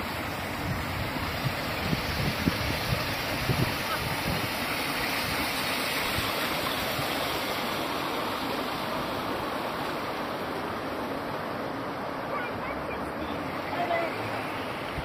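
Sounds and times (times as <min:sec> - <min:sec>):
water flowing down stone channel: 0:00.0 - 0:15.0.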